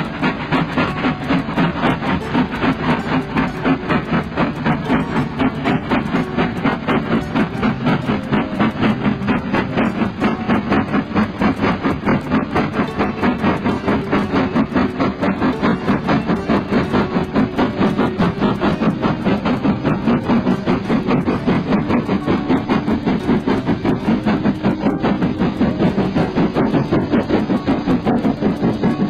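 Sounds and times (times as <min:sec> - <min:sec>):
model train clattering on track: 0:00.0 - 0:29.0.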